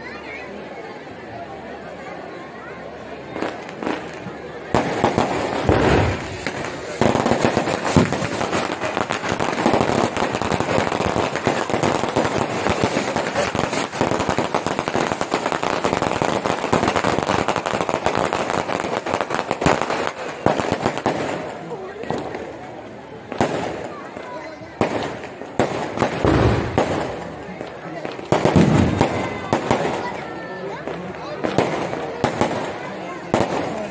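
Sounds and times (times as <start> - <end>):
firecrackers popping: 3.1 - 33.9.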